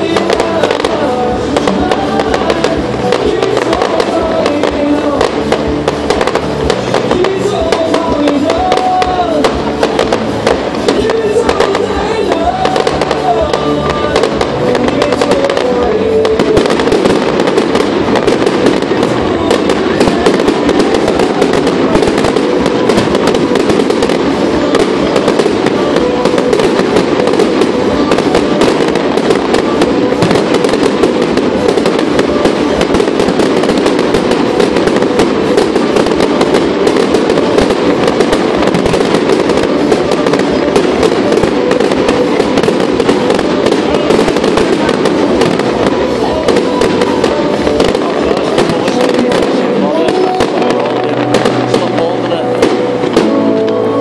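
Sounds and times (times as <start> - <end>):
fireworks crackling and banging: 0.0 - 54.0
music playing: 0.0 - 54.0.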